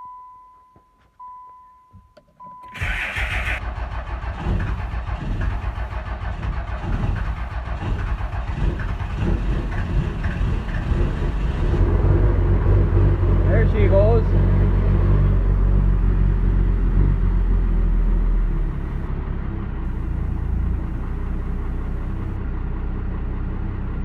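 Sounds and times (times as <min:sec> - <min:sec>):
diesel engine cranking and starting: 0:02.6 - 0:24.0.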